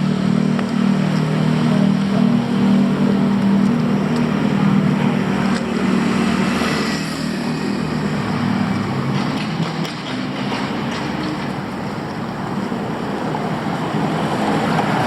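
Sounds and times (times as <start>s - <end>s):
city noise: 0.0s - 15.0s
vehicle engine humming: 0.0s - 15.0s.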